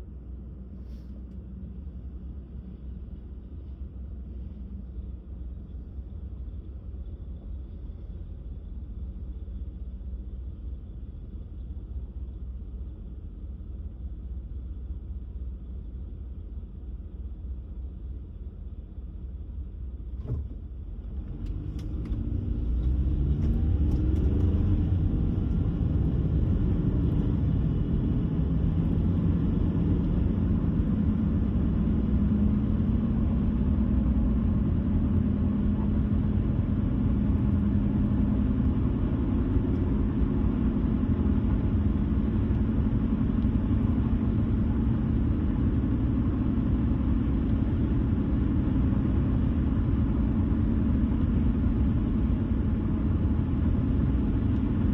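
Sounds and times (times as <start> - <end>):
car tyres and engine rumble: 0.0 - 54.9.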